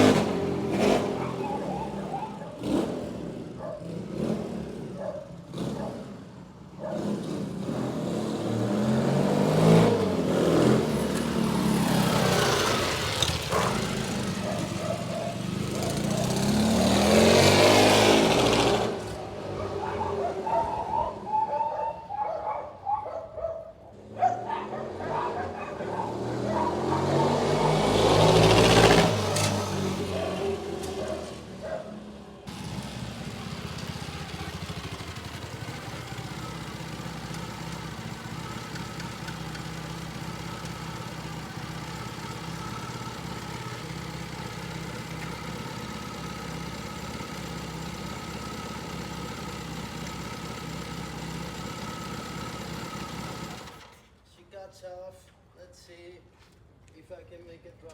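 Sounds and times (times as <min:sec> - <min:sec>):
motorcycle engine revving and idling: 0:00.0 - 0:21.6, 0:24.0 - 0:54.2.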